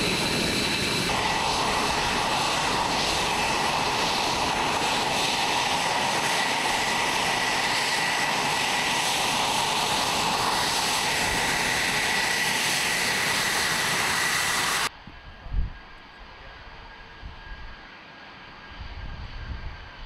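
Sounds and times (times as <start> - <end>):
jet engine roar with whine: 0.0 - 20.0.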